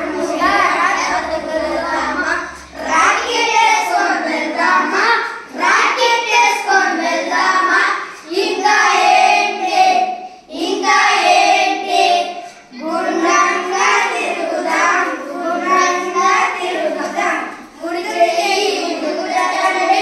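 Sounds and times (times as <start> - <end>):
boys singing together: 0.0 - 20.0.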